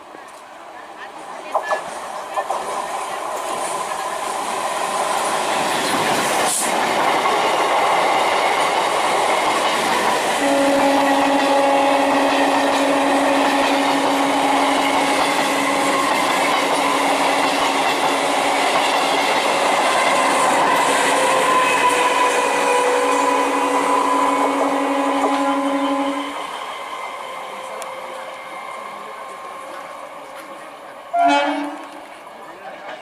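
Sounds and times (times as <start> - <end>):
train wheels rumbling and clattering: 1.4 - 33.0.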